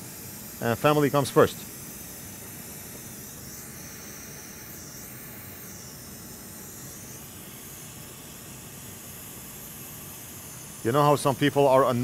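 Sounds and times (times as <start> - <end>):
hot air rework station hissing: 0.0 - 12.0.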